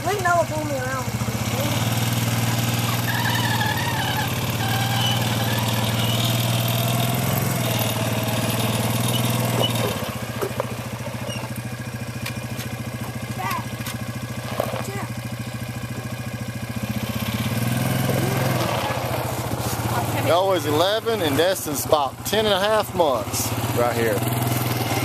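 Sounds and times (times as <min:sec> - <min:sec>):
atv engine idling: 0:00.0 - 0:25.0.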